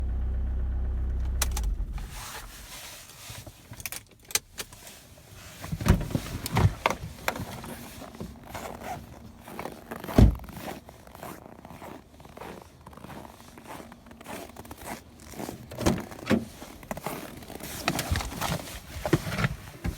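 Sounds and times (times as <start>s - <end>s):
handling clicks and rustling: 1.3s - 19.9s.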